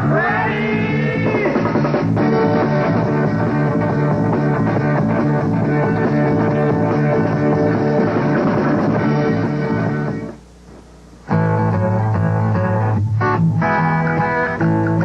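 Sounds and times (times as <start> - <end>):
rock music with guitar: 0.0 - 10.4, 11.2 - 15.0.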